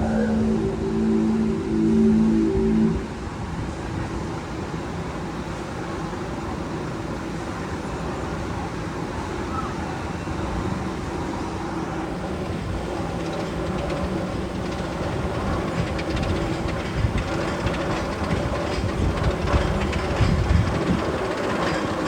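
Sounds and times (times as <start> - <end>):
train-like rumble with hum: 0.0 - 22.0.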